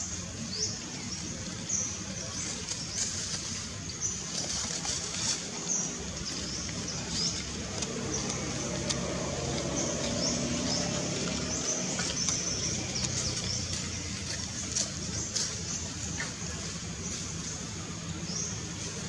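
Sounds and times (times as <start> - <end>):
low motor hum: 0.2 - 19.0.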